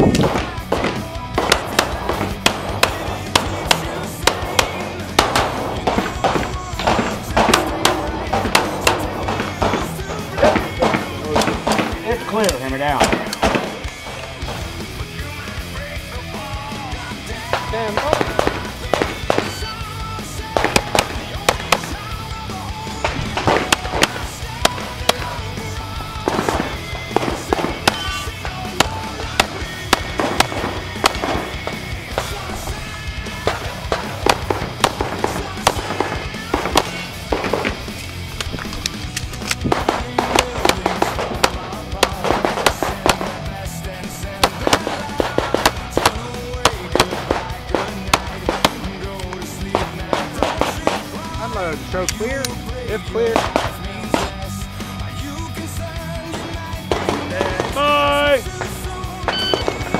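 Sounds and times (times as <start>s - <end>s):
pistol shots: 0.0s - 15.2s, 17.4s - 54.6s, 56.2s - 59.9s
background music: 0.0s - 59.9s.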